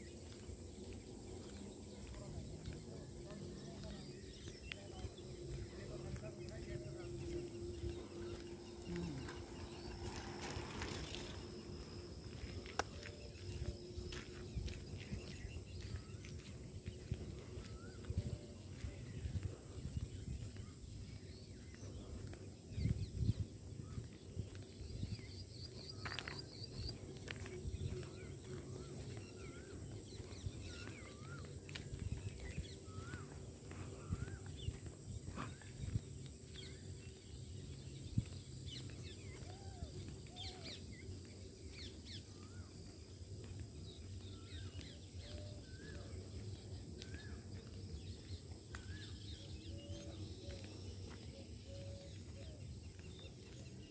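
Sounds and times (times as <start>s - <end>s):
songbirds chirping: 0.0s - 53.9s
steady high-pitched whine: 0.0s - 53.9s.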